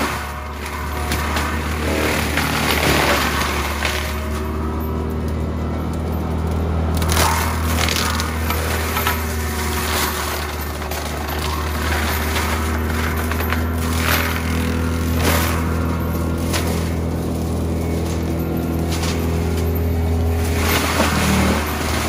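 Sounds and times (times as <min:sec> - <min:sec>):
branches snapping in mulcher: 0:00.0 - 0:04.5, 0:05.3 - 0:22.0
diesel engine running under load: 0:00.0 - 0:22.0.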